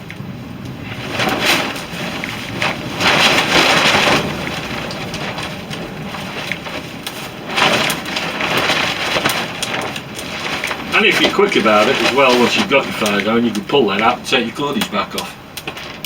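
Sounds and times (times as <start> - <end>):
burning tinder crackling: 0.0 - 16.0
wind buffeting microphone: 0.0 - 16.0.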